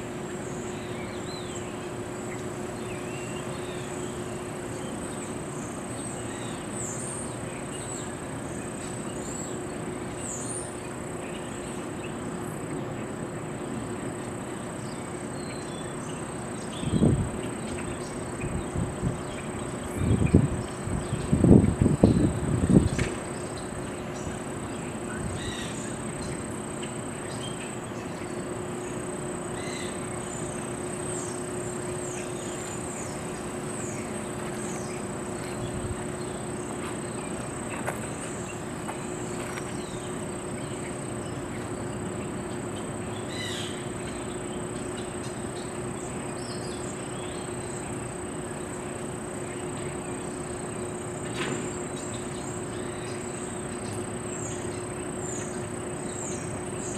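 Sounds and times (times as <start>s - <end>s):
high-pitched insect drone: 0.0s - 56.9s
steady low hum: 0.0s - 56.9s.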